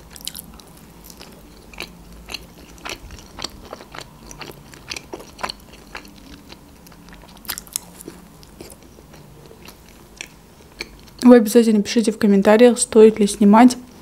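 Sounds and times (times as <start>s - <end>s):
person chewing crunchy pizza: 0.0s - 11.2s.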